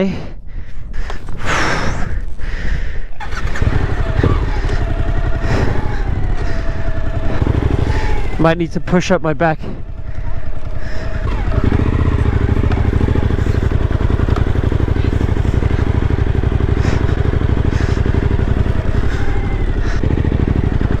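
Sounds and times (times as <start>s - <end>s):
motorcycle engine idling: 2.5s - 21.0s.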